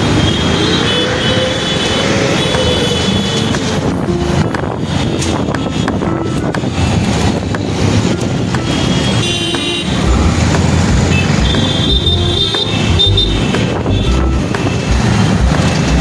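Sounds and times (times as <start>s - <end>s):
road traffic passing: 0.0s - 16.0s
vehicle horns honking: 0.0s - 16.0s.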